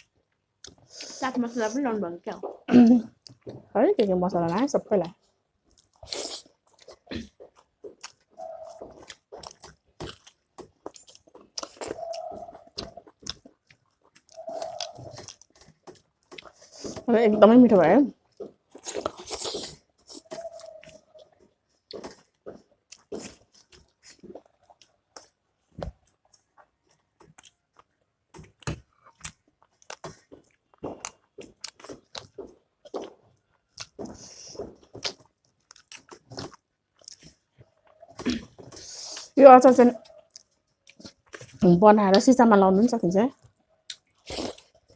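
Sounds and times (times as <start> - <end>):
chewing and lip-smacking: 5.0 - 17.0, 18.2 - 42.2, 43.4 - 44.9.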